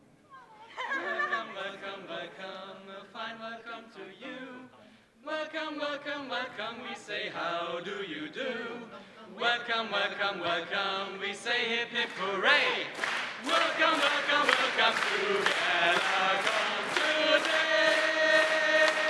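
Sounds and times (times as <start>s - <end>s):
group of voices singing: 0.8s - 19.0s.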